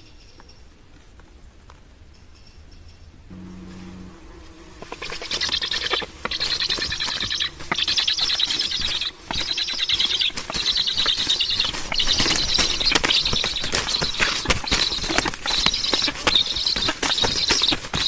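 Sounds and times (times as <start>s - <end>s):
storks rasping clicking calls: 3.4s - 18.0s.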